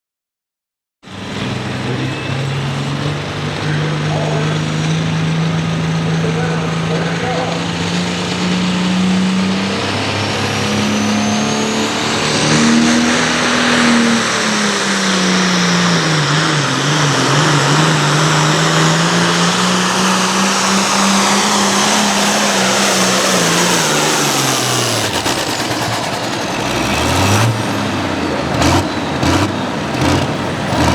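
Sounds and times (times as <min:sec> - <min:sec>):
tractor diesel engine under load: 0:01.1 - 0:30.9.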